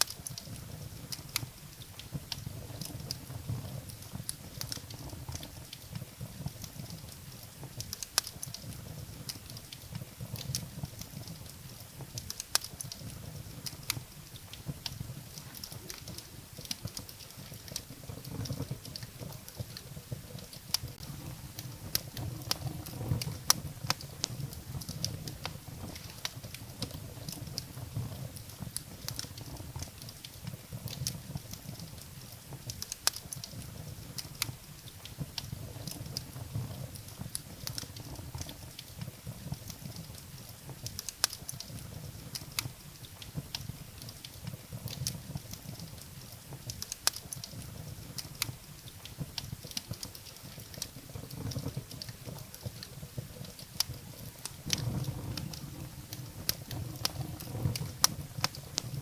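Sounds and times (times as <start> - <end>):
flames rumbling: 0.0 - 59.0
logs crackling and popping: 0.0 - 59.0.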